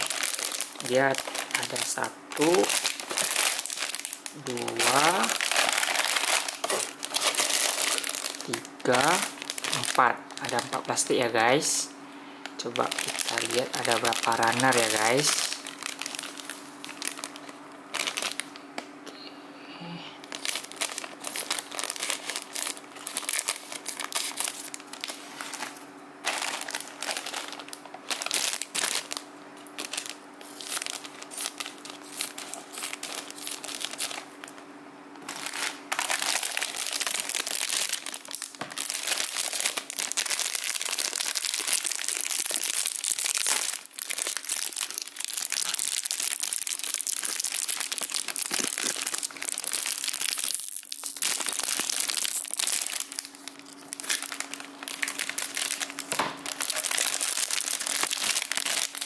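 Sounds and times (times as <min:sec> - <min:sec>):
plastic bags crinkling: 0:00.0 - 0:11.8, 0:12.4 - 0:18.8, 0:20.2 - 0:59.0.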